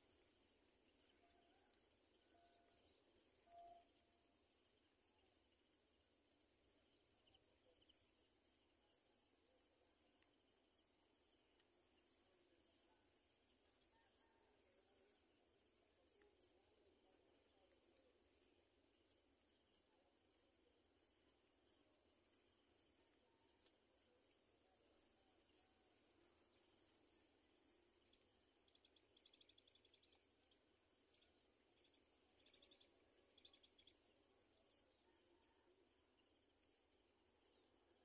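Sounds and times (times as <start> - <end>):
faint high chirp: 0.0 - 38.0.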